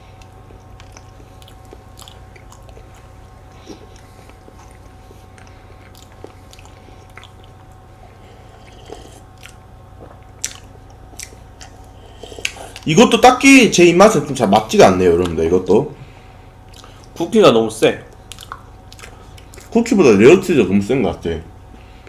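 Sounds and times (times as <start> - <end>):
chewing soft cake: 0.0 - 15.7, 16.6 - 20.5.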